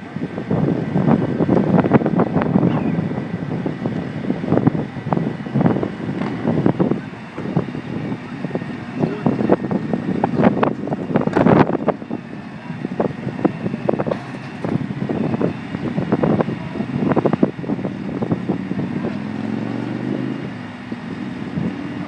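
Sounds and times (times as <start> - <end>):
vehicle engine running: 0.0 - 22.0
wind buffeting microphone: 0.0 - 22.0.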